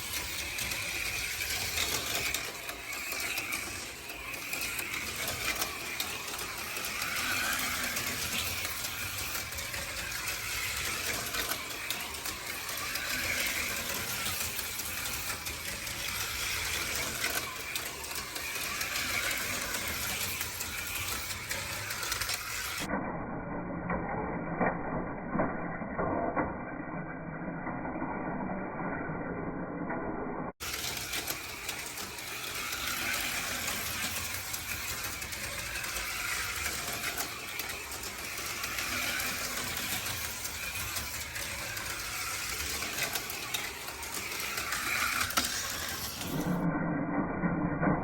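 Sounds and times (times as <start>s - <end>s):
slot cars clattering in track: 0.0s - 22.9s, 30.6s - 46.6s
small electric motors whirring: 0.0s - 22.9s, 30.6s - 46.7s.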